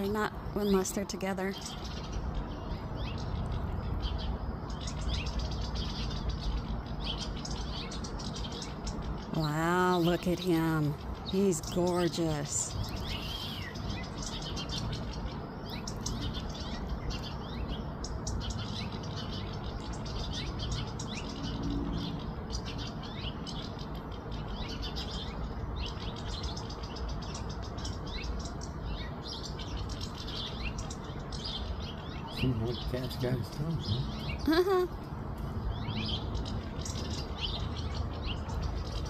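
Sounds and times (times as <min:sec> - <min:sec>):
low background noise: 0:00.0 - 0:39.0
songbirds chirping: 0:00.0 - 0:39.0.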